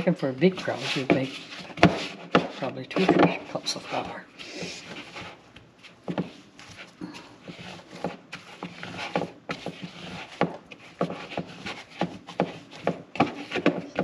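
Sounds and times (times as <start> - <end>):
dough kneaded in plastic bowl: 0.0 - 14.0.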